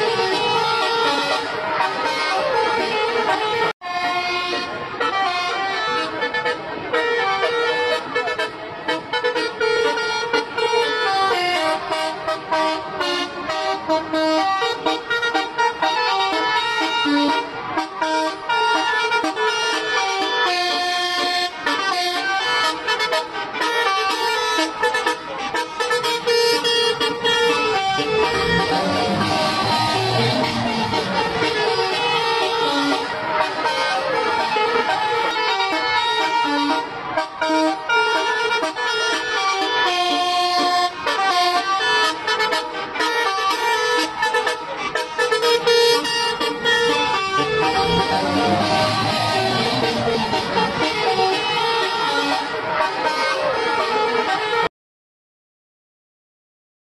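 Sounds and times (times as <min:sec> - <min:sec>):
bus horn playing melody: 0:00.0 - 0:54.7.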